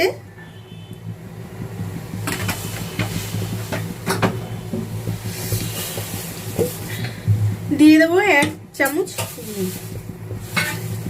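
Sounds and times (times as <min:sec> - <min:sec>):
low hum: 0:00.2 - 0:11.0.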